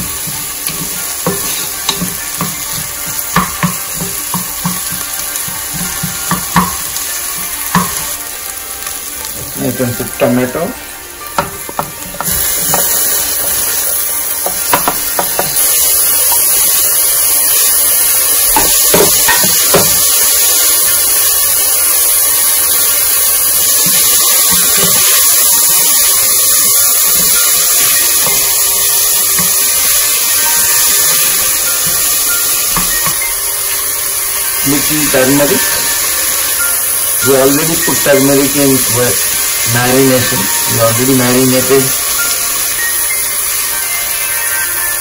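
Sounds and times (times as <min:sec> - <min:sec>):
food sizzling in hot oil: 0:00.0 - 0:45.0.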